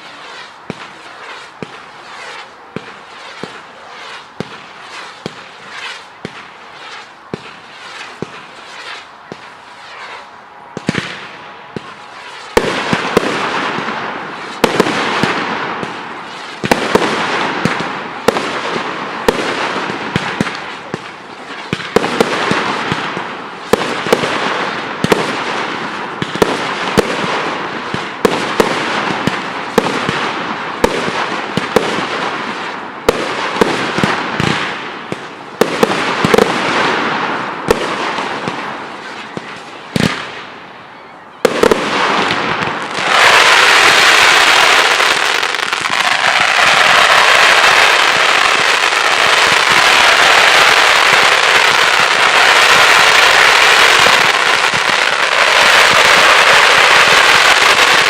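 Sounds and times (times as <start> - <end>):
fireworks bangs: 0.0 - 58.0
fireworks hiss and crackle: 0.0 - 58.0.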